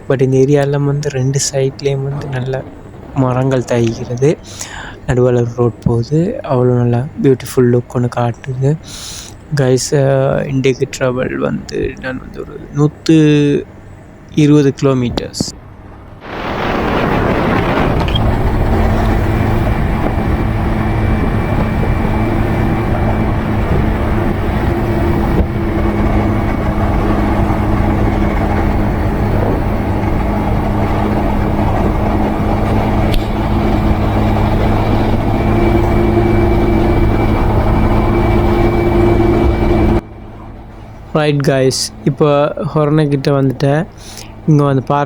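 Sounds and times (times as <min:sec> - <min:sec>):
motorcycle engine droning: 0:00.0 - 0:45.0
rushing road noise: 0:00.0 - 0:45.0.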